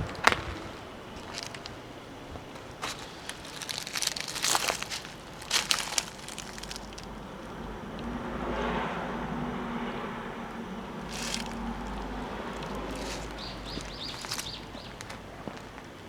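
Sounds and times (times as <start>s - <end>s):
dry twigs crackling and crunching: 0.0s - 8.2s, 10.5s - 16.0s.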